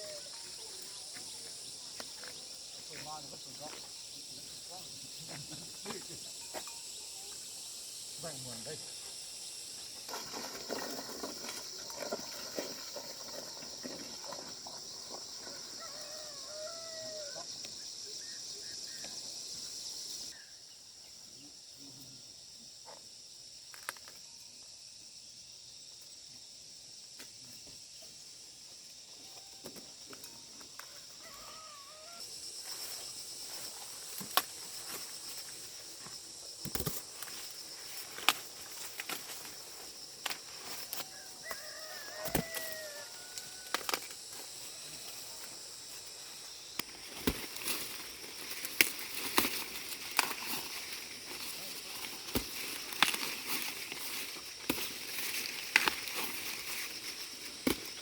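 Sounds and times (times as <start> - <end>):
insects buzzing chorus: 0.0 - 58.0.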